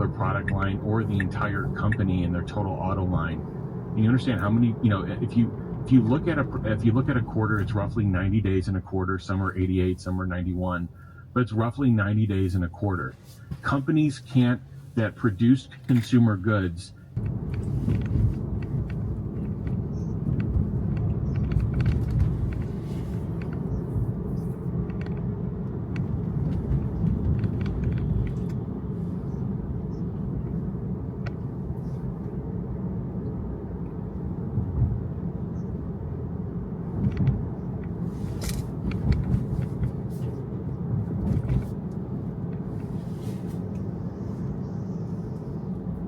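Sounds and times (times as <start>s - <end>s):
road and tyre rumble: 0.0s - 46.0s.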